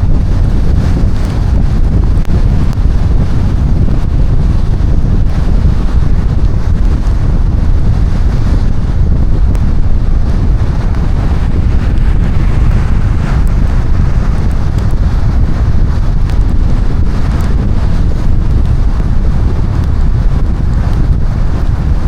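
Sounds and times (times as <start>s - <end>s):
heavy rain low rumble: 0.0s - 22.0s
wind buffeting microphone: 0.0s - 22.0s.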